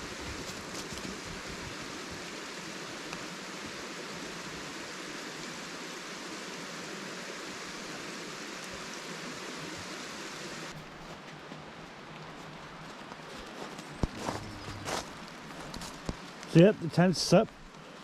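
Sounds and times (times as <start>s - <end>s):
rain hissing: 0.0s - 10.8s, 13.3s - 18.0s.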